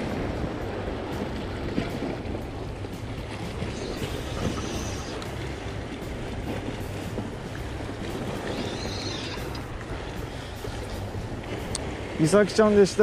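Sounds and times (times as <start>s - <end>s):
constant low rumble: 0.0s - 12.2s
waves: 0.0s - 13.0s
wind: 0.0s - 13.0s.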